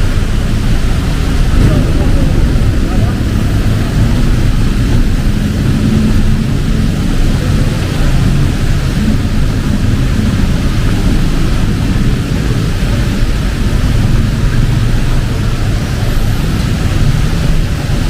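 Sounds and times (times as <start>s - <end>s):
heavy rain hissing: 0.0s - 18.0s
low rumble of street traffic: 0.0s - 18.0s.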